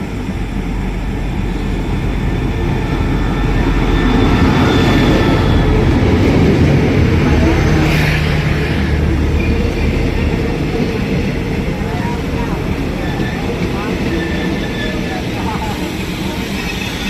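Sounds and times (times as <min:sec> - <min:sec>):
diesel railcar engine rumble: 0:00.0 - 0:17.0.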